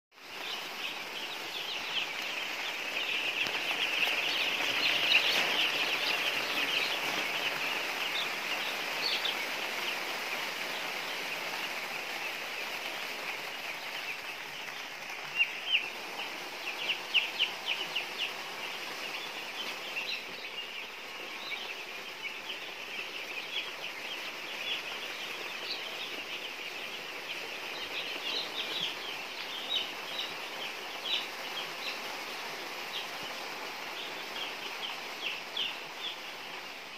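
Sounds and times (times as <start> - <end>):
chicks peeping: 0.2 - 36.9.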